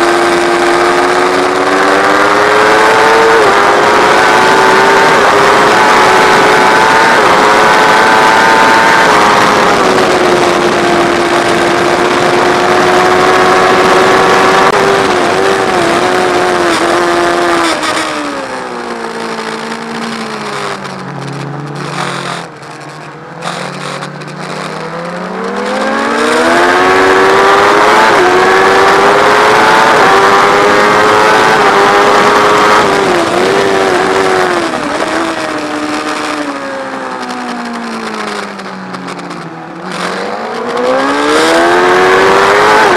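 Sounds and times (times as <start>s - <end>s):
motorcycle engine revving: 0.0s - 42.9s
steady rushing noise: 0.0s - 42.9s.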